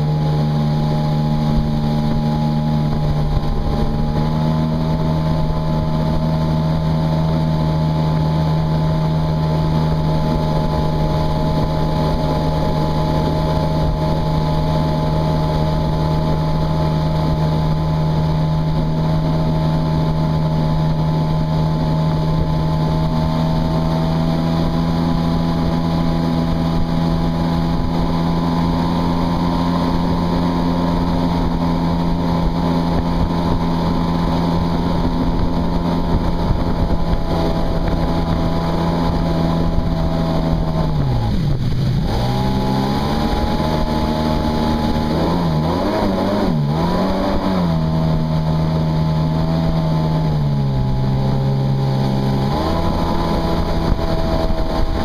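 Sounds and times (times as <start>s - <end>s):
jet ski engine drone: 0.0s - 55.0s
water jet rushing and spray: 0.0s - 55.0s
wind on microphone: 0.0s - 55.0s.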